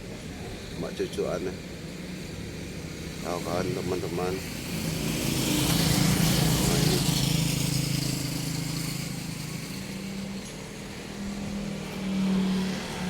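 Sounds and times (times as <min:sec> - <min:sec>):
passing vehicle engine: 0:01.4 - 0:13.0.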